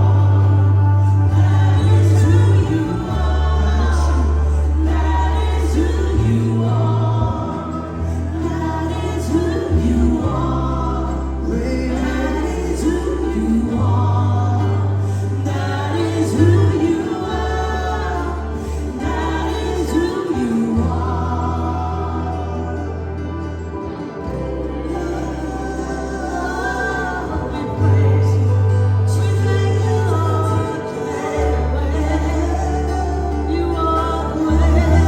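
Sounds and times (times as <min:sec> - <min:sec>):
band playing: 0:00.0 - 0:35.0
choir singing gospel song: 0:00.0 - 0:35.0
low bass line: 0:00.0 - 0:35.0.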